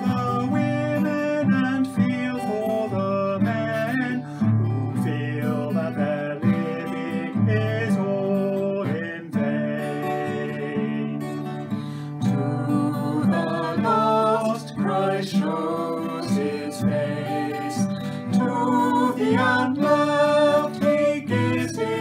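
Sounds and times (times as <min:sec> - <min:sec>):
man singing a hymn: 0:00.0 - 0:11.5, 0:12.2 - 0:22.0
strummed guitar: 0:00.0 - 0:22.0.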